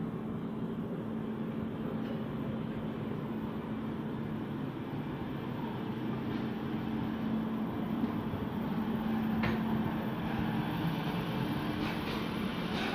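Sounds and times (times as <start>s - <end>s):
train rumbling: 0.0s - 12.9s.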